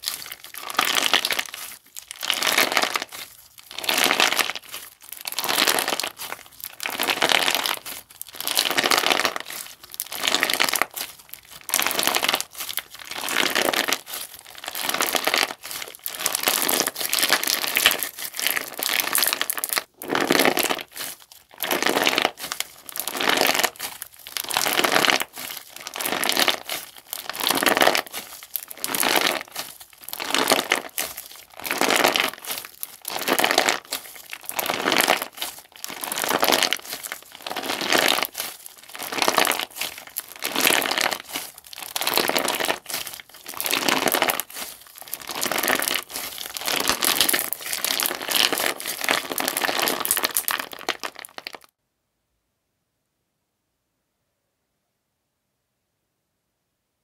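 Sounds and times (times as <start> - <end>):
crunchy slime crackling and popping: 0.0 - 51.7.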